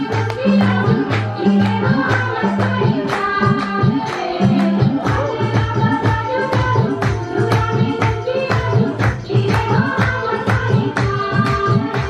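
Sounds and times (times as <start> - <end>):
drum beat with pitch bends: 0.0 - 12.0.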